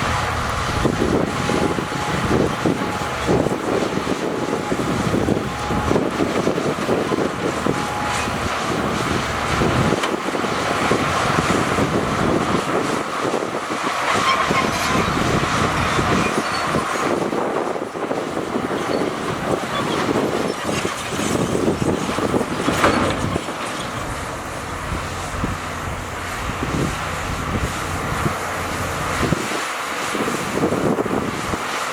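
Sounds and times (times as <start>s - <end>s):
bulldozer engine running: 0.0s - 31.9s
steel tracks clattering: 0.0s - 31.9s.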